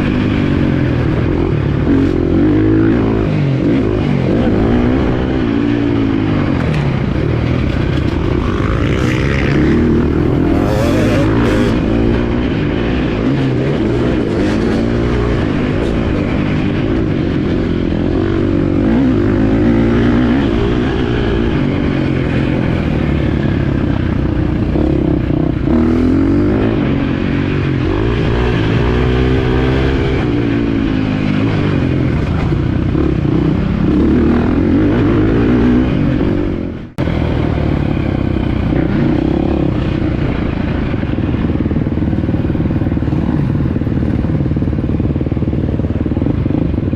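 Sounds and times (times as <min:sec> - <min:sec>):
motocross bike engine revving: 0:00.0 - 0:45.6.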